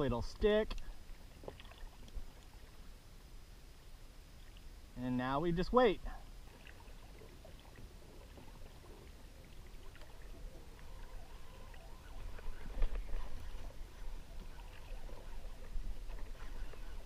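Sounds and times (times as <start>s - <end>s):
water lapping against hull: 0.0s - 3.0s, 4.3s - 17.0s.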